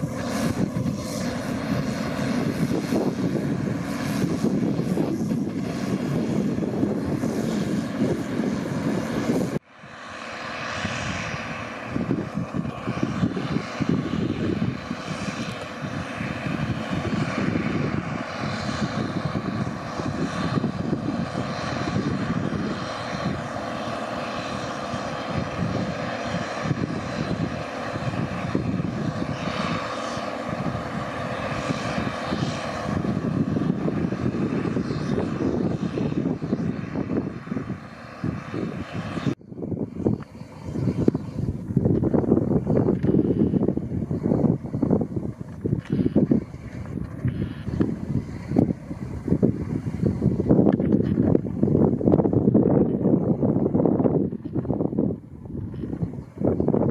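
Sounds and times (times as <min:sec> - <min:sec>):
combine harvester droning: 0:00.0 - 0:39.4, 0:40.0 - 0:56.9
faint machine whine: 0:00.0 - 0:56.9.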